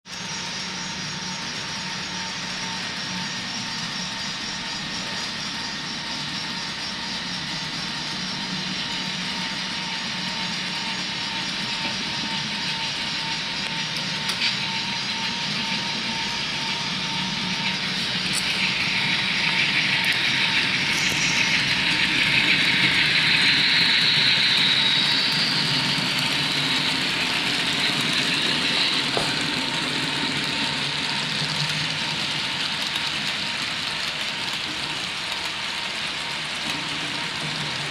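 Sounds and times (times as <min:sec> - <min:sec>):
model train rolling rumble: 0:00.1 - 0:37.9.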